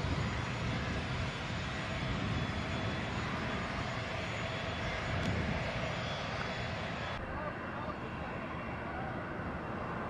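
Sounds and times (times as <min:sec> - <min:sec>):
high jet whine: 0:00.0 - 0:10.0
jet aircraft rumble: 0:00.0 - 0:10.0.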